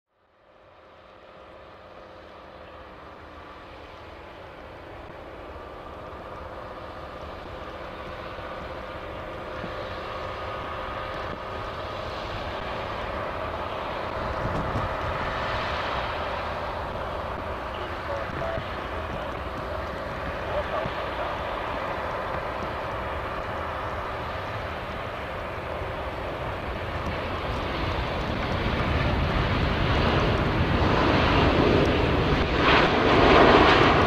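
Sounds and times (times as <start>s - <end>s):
jet airliner drone with whine: 0.1s - 34.0s.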